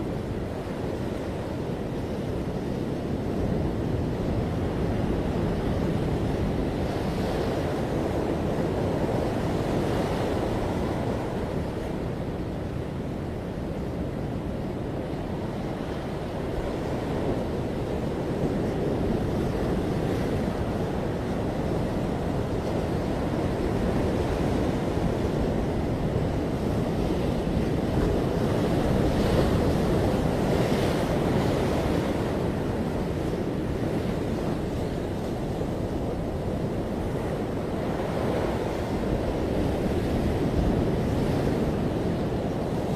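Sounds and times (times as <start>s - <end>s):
ocean waves breaking on beach: 0.0s - 42.9s
wind on microphone: 0.0s - 42.9s.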